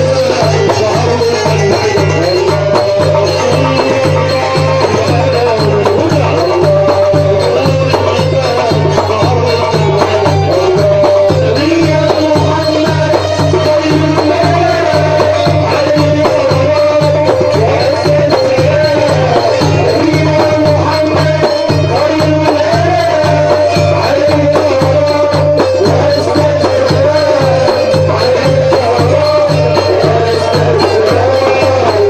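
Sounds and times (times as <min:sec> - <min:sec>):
pulsing bass beat: 0:00.0 - 0:32.0
shaken rattle percussion: 0:00.0 - 0:32.0
wavering melody line: 0:00.0 - 0:32.0.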